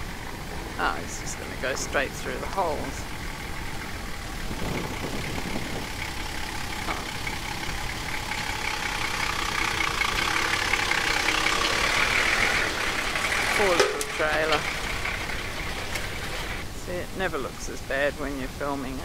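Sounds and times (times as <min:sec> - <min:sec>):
engine running at low speed: 0:00.0 - 0:19.0.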